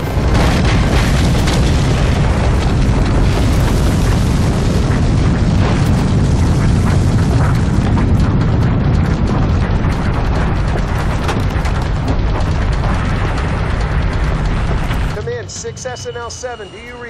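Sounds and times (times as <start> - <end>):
volcanic eruption rumble: 0.0 - 16.9
crackles and booms: 0.0 - 17.0.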